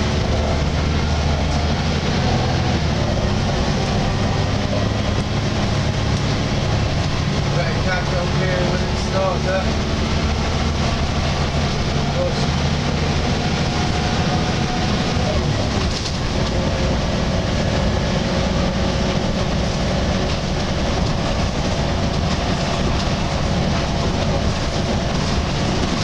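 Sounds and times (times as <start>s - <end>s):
bus diesel engine: 0.0s - 26.0s
road rumble: 0.0s - 26.0s.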